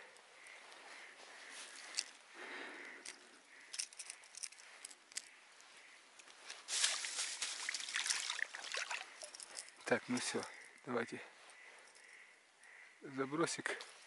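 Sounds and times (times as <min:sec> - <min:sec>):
rustling of gloves and clothing: 0:00.0 - 0:12.3, 0:13.7 - 0:14.0.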